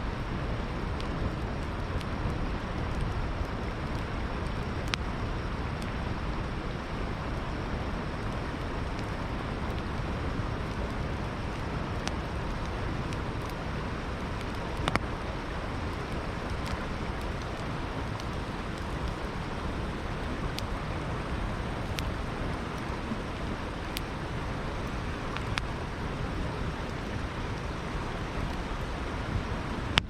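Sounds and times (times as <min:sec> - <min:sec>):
flowing river water: 0:00.0 - 0:30.0
campfire crackling and popping: 0:00.1 - 0:30.0.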